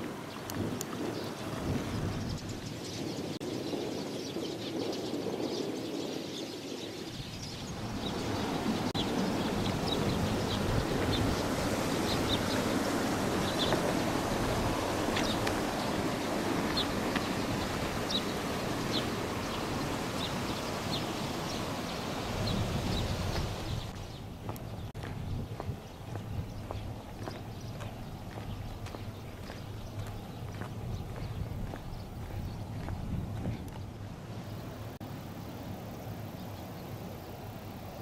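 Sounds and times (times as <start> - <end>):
small birds chirping: 0.2 - 38.0.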